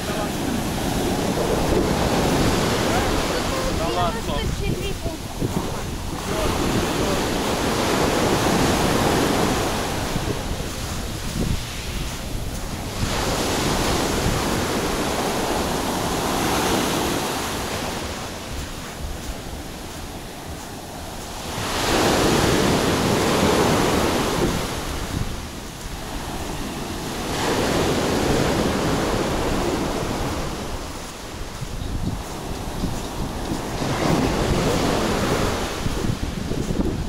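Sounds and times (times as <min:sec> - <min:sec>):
surf washing up a sandy beach: 0:00.0 - 0:37.0
wind rumble on microphone: 0:00.0 - 0:37.0.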